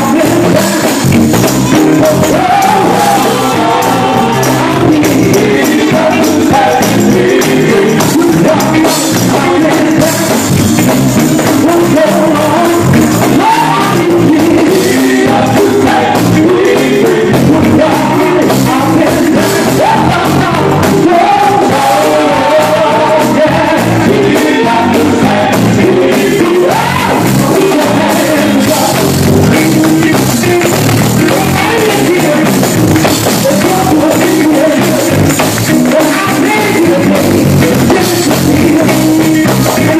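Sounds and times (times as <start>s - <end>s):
drum kit: 0.0s - 39.9s
electric guitar: 0.0s - 39.9s
gospel group singing: 0.0s - 39.9s.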